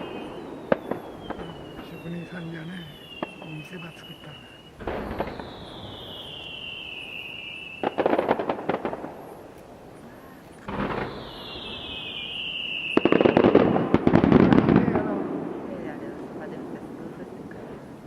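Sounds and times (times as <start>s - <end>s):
firework falling whistle: 0.0s - 14.6s
firework crackle of pops: 0.0s - 16.4s.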